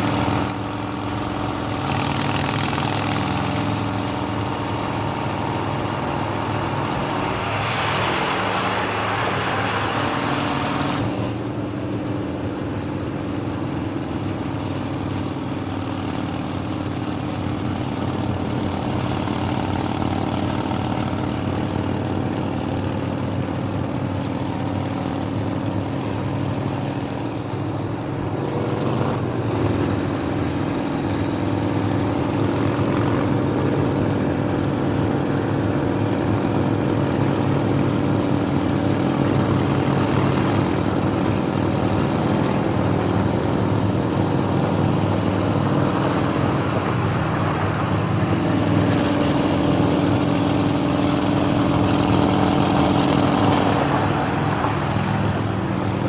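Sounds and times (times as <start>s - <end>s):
motorcycle engines droning: 0.0s - 56.0s.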